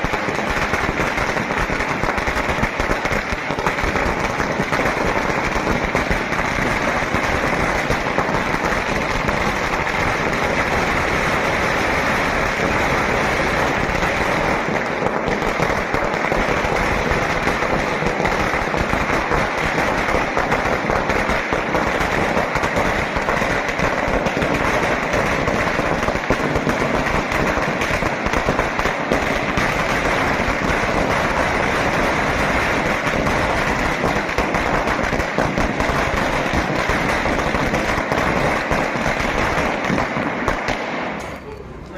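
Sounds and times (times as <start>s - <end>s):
firecrackers crackling: 0.0s - 41.9s.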